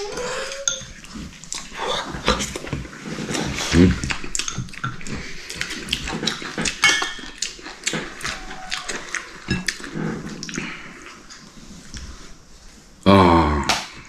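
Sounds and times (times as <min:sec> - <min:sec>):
eating sounds: 0:00.0 - 0:12.4.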